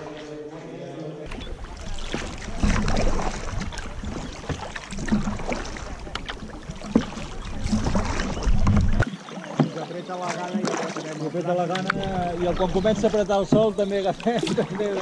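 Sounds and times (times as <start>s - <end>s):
paddle splashing in water: 1.2s - 15.0s.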